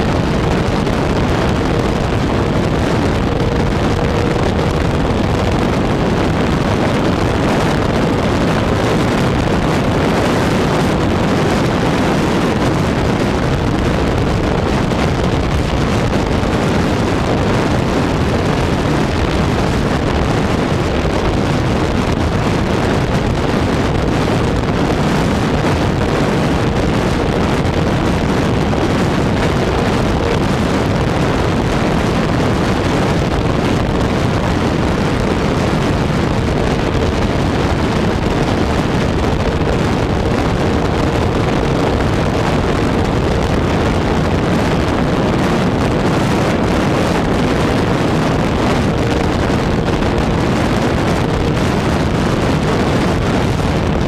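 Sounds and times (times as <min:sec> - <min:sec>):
propeller and motor drone: 0:00.0 - 0:54.0
wind rushing over microphone: 0:00.0 - 0:54.0.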